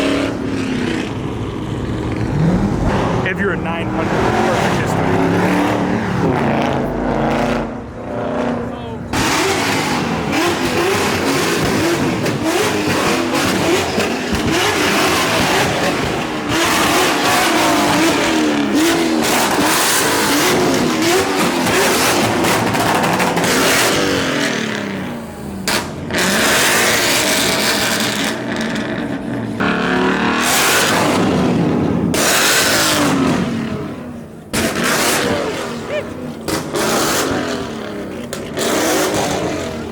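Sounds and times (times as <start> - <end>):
car engine revving hard: 0.0 - 39.9
exhaust rush: 0.0 - 39.9.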